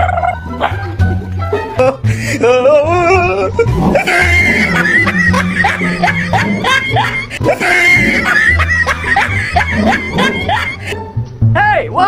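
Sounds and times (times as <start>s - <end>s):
background music with bass pulse: 0.0s - 12.0s.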